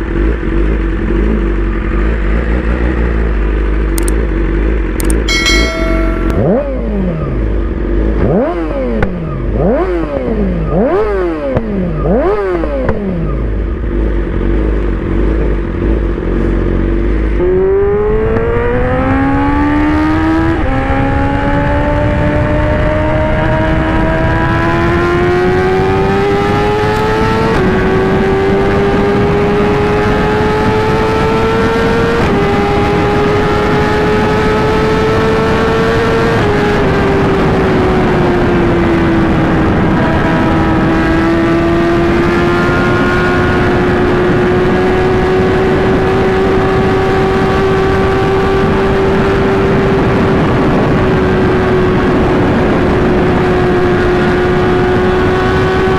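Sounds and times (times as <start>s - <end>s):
motorcycle engine revving and accelerating: 0.0s - 5.3s, 6.3s - 55.9s.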